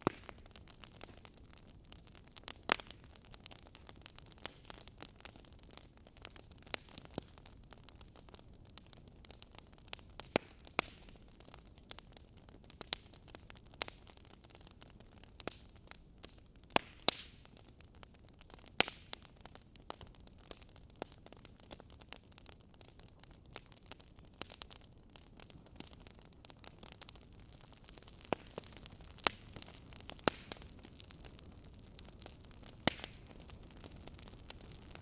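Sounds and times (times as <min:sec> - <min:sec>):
faint steady hiss: 0:00.0 - 0:35.0
wood fire crackling: 0:00.0 - 0:35.0.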